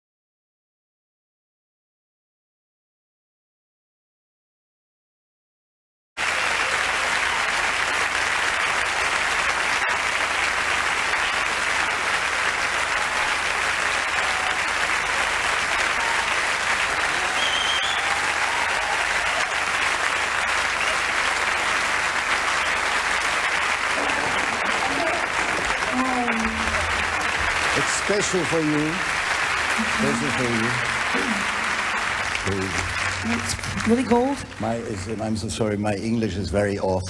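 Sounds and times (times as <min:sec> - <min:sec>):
audience applauding: 0:06.2 - 0:36.2.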